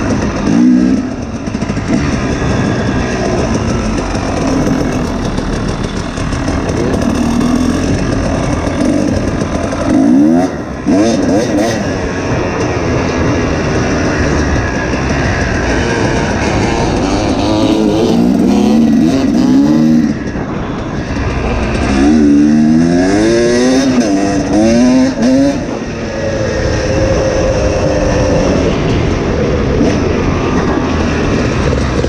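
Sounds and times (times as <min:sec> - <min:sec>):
dirt bike engine revving: 0:00.0 - 0:32.0
rushing noise: 0:00.0 - 0:32.0.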